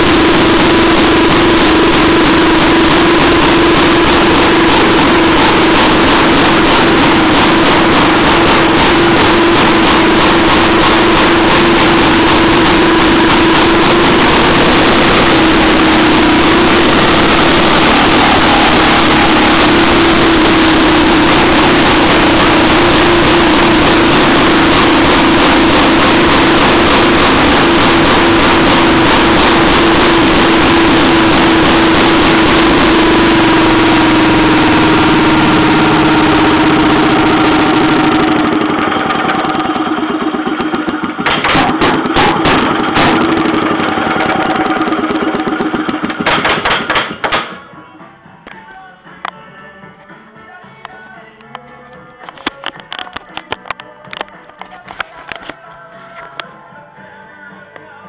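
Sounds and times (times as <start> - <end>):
two-stroke mower engine running: 0.0 - 47.7.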